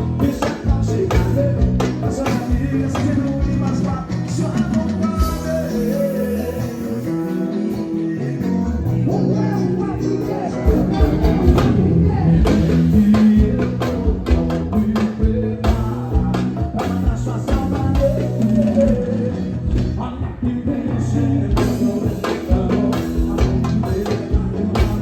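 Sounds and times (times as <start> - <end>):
live band playing: 0.0 - 25.0
person singing: 0.0 - 25.0
regular drum beat: 0.0 - 25.0
steady bass: 0.0 - 25.0.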